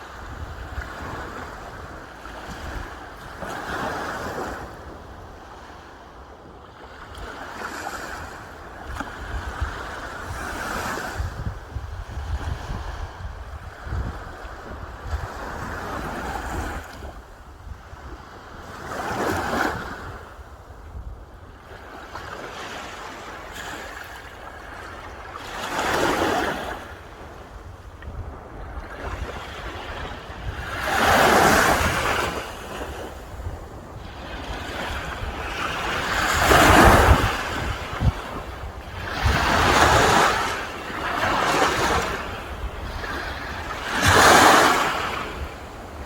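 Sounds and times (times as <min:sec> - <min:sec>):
sea waves breaking on shore: 0:00.0 - 0:46.0
wind rumbling on microphone: 0:00.0 - 0:46.0.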